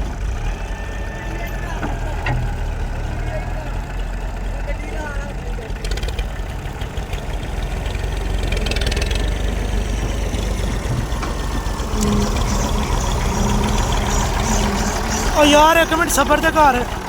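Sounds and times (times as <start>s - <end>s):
diesel engine knocking: 0.0s - 17.0s.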